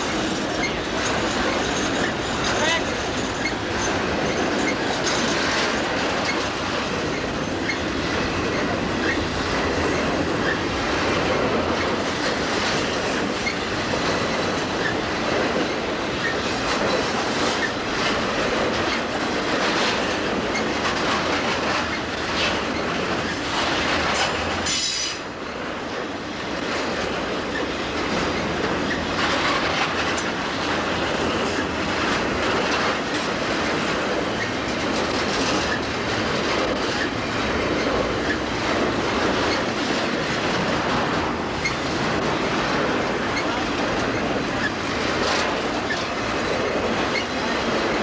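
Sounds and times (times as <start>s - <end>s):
steel wheels rumbling on rail: 0.0s - 48.0s
wheels clacking over rail joints: 0.0s - 48.0s.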